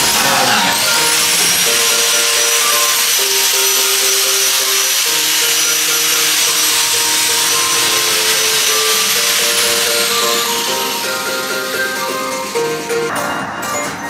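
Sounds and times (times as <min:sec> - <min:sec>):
loud steady hiss: 0:00.0 - 0:13.1
music with held notes: 0:00.0 - 0:14.0.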